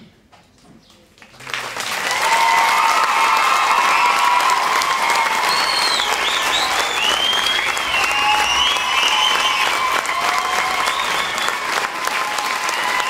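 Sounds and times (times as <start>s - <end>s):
audience applause: 1.4s - 13.0s.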